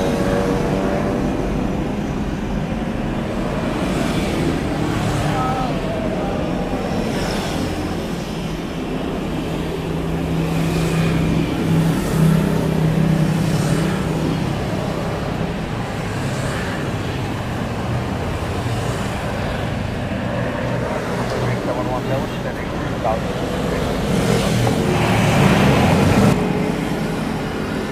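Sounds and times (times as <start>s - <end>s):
road traffic noise: 0.0s - 27.9s
vehicle engine hum: 0.0s - 27.9s.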